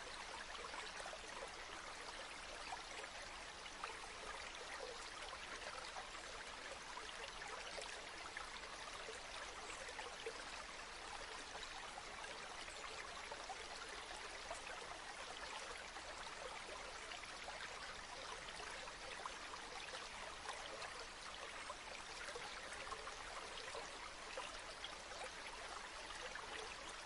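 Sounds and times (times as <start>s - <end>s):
river water babbling: 0.0s - 27.0s.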